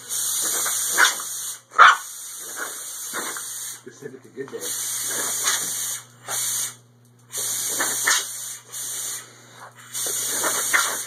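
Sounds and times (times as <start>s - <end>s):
compressed air hissing from hose: 0.0s - 3.8s, 4.6s - 11.0s.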